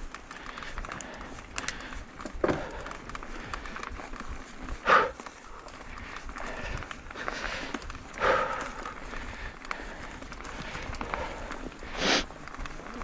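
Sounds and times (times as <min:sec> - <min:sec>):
bike rattling and ticking: 0:00.0 - 0:13.0
bike tyres rolling over trail: 0:00.0 - 0:13.0
rider breathing out hard: 0:00.0 - 0:13.0.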